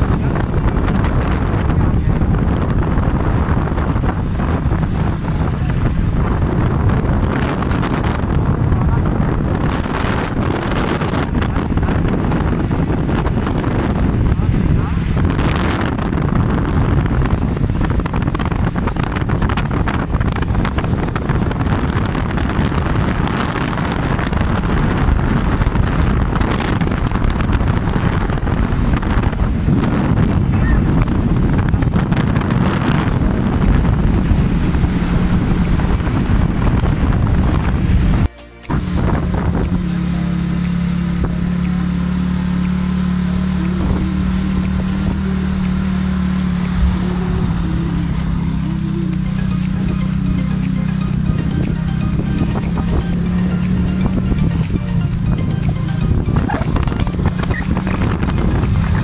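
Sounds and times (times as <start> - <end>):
motorcycle engine: 0.0 - 59.0
road noise: 0.0 - 59.0
wind buffeting microphone: 0.0 - 59.0.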